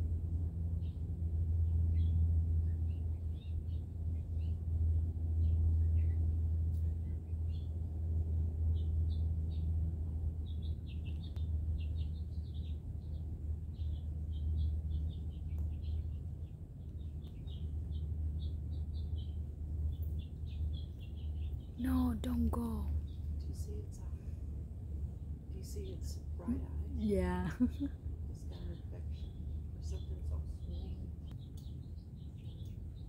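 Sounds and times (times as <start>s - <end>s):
steady low rumble: 0.0s - 33.0s
small birds chirping: 0.7s - 33.0s.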